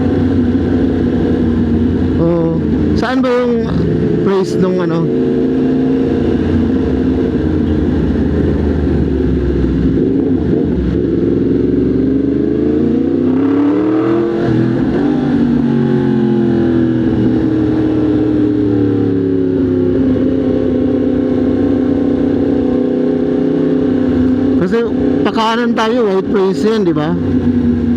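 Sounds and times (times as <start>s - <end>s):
motorcycle engine revving: 0.0s - 27.9s
road and wind noise: 0.0s - 27.9s.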